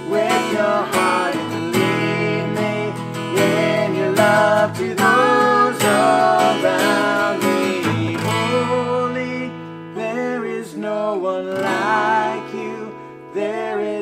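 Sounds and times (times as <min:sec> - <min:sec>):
strummed acoustic guitar: 0:00.0 - 0:14.0
woman and man singing: 0:00.0 - 0:14.0.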